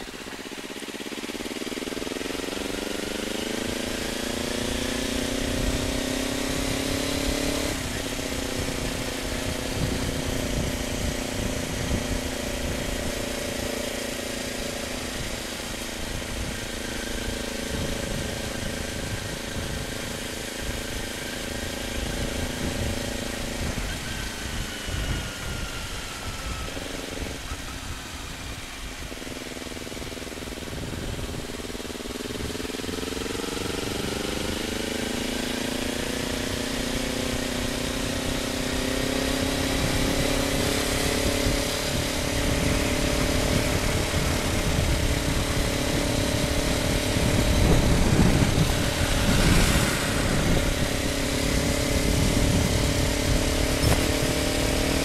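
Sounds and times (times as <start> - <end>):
motorcycle engine accelerating: 0.0 - 55.0
wind rumble on microphone: 3.6 - 55.0.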